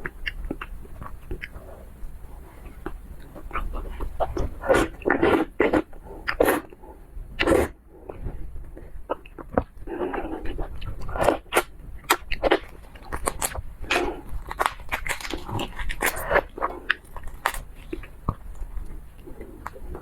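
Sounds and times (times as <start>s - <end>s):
chewing and crunching: 0.0s - 20.0s
wet mouth sounds: 0.0s - 20.0s.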